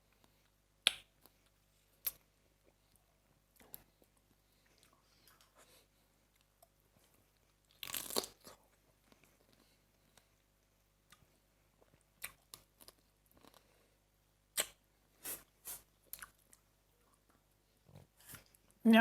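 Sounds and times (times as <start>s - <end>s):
faint chewing: 0.0s - 13.9s, 14.5s - 18.8s.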